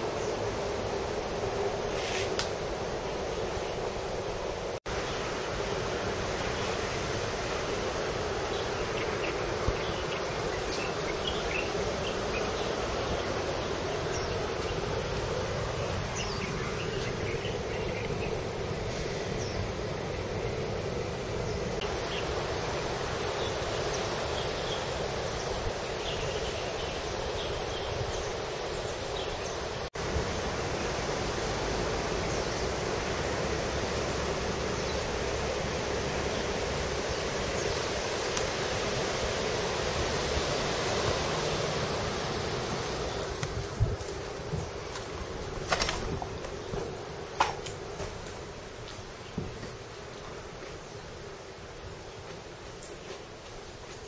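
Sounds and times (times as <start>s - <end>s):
insects buzzing: 0.0s - 54.0s
steady background noise: 0.0s - 54.0s
steady outdoor rushing noise: 0.0s - 54.0s.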